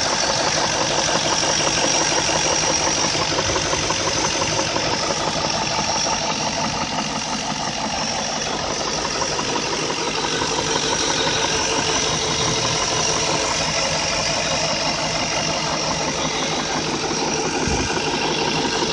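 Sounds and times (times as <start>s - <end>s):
engine idling with knocking rattle: 0.0s - 18.9s.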